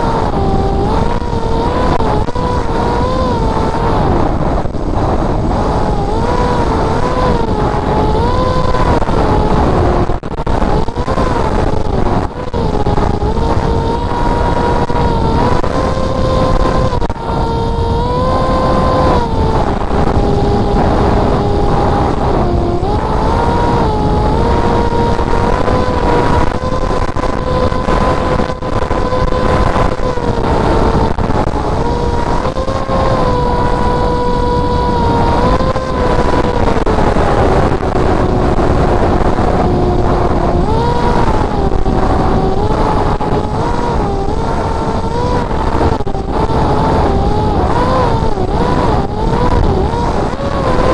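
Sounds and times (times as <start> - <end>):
model aircraft motor whining: 0.0 - 50.9
wind rush on microphone: 0.0 - 50.9.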